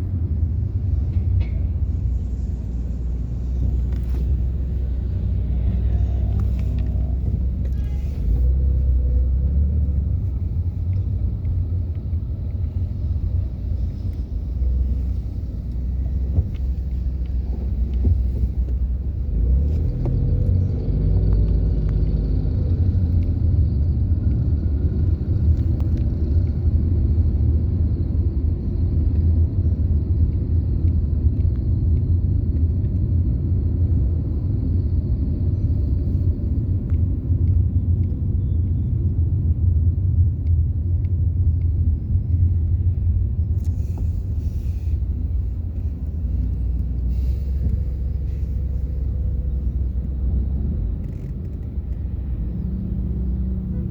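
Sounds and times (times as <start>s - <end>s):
car engine rumble: 0.0s - 53.9s
road noise: 0.0s - 53.9s.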